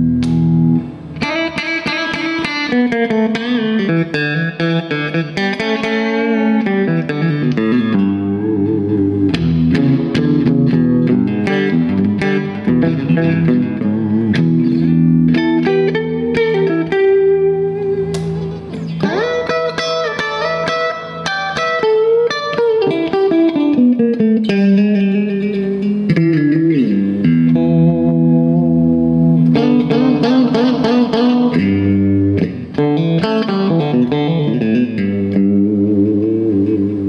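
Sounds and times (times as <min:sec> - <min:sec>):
electric guitar playing: 0:00.0 - 0:37.0.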